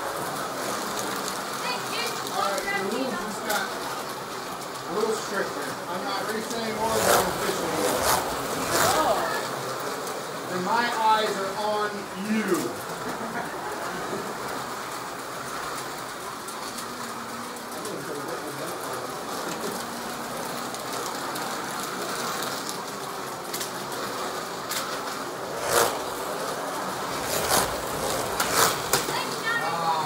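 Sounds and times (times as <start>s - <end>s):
slot car motors whirring: 0.0s - 30.0s.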